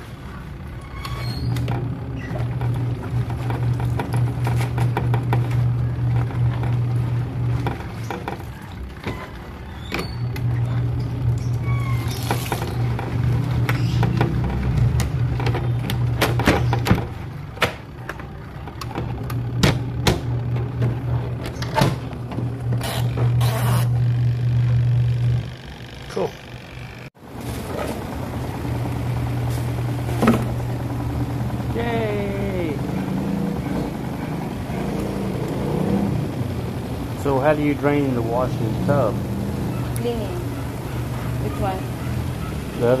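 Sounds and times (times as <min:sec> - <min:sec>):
washing machine motor humming: 0:00.1 - 0:43.0.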